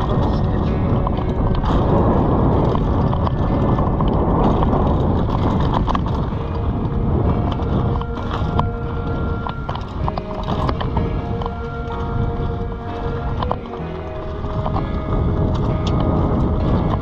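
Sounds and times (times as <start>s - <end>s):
bike rattling and knocking: 0.0s - 17.0s
wind rush on microphone: 0.0s - 17.0s.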